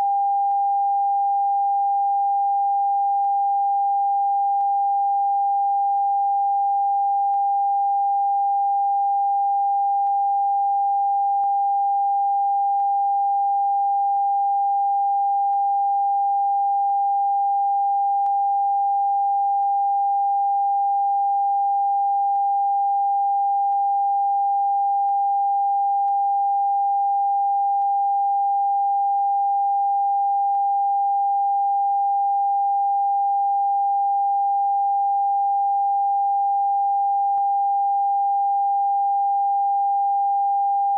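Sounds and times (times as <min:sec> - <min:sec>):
continuous sine tone: 0:00.0 - 0:40.9.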